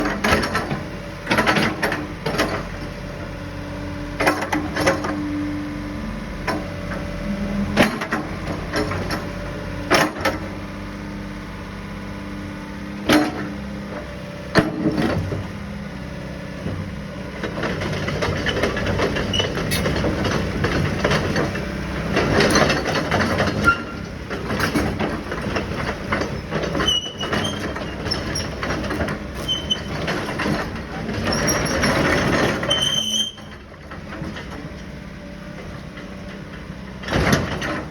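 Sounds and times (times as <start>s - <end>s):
excavator engine hum: 0.0s - 37.9s.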